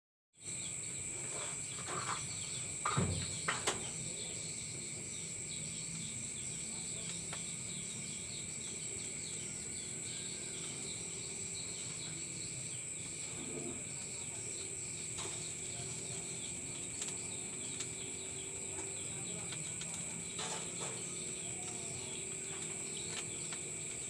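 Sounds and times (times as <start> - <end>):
insects chirping: 0.4 - 24.0.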